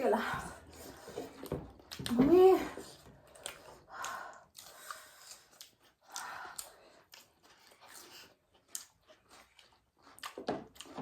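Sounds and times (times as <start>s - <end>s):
chewing and mouth smacks: 1.0s - 2.2s, 2.8s - 11.0s.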